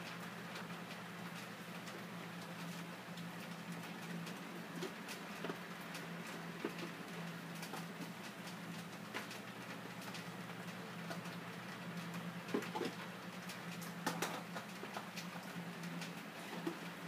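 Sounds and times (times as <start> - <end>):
faint clicks and ticks: 0.0 - 17.0.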